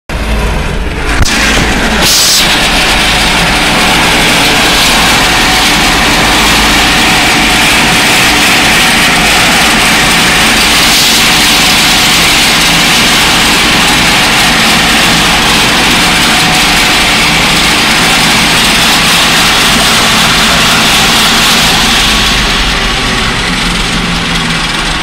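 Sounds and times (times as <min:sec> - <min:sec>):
tractor and harvester din: 0:00.1 - 0:25.0.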